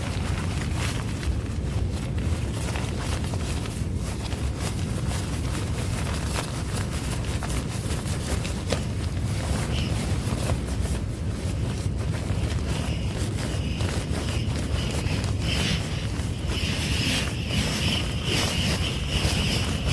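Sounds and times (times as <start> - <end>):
wind gusting on microphone: 0.0 - 19.9.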